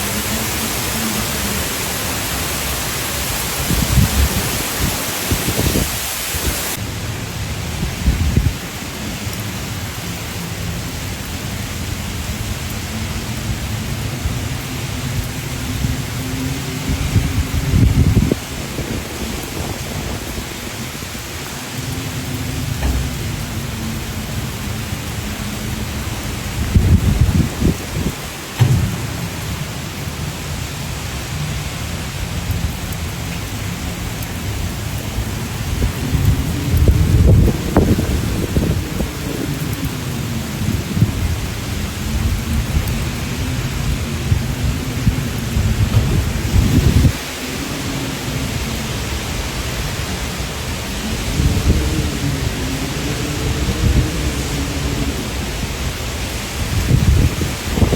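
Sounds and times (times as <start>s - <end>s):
wind buffeting microphone: 0.0s - 10.5s, 11.9s - 57.9s
heavy rain: 0.0s - 57.9s.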